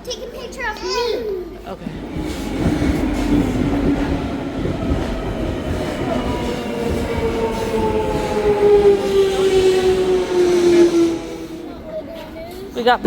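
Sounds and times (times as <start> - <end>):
train wheels rumbling: 0.0 - 13.0
train motor whine: 1.7 - 12.4.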